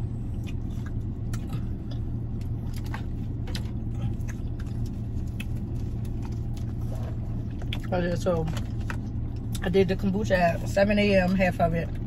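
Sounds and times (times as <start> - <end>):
parked car low hum: 0.0 - 12.0.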